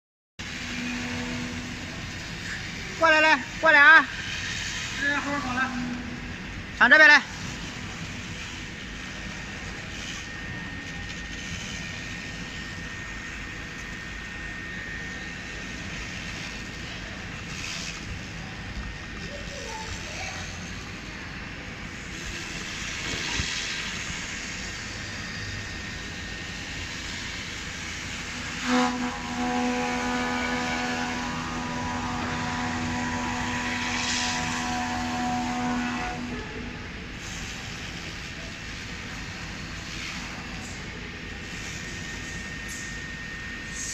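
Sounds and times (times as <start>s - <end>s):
factory machinery noise: 0.4s - 43.9s
faint high whine: 0.4s - 43.9s.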